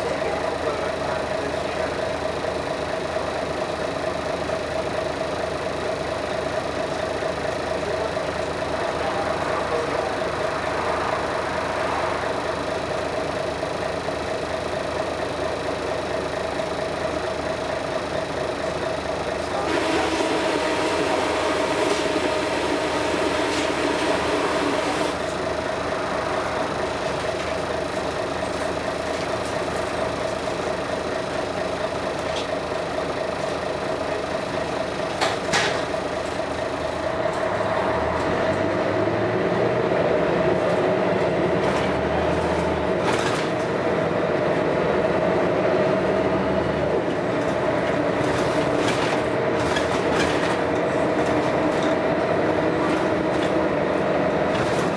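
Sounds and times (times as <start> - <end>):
bus engine: 0.0 - 54.9.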